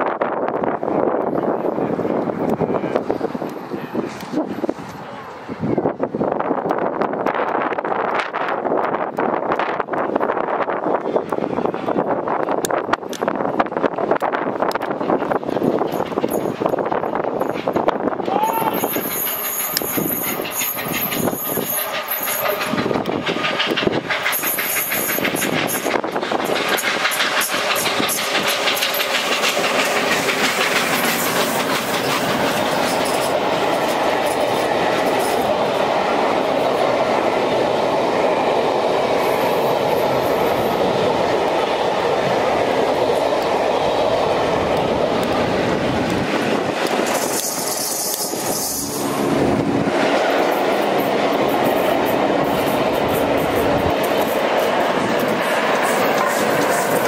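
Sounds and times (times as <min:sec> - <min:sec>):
train wheels clattering over rail joints: 0:06.6 - 0:57.0
steam locomotive exhaust beats: 0:11.0 - 0:57.0.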